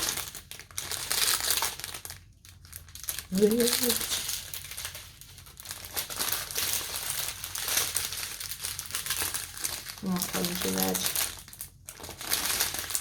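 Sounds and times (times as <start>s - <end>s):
plastic packets crinkling: 0.0s - 13.0s.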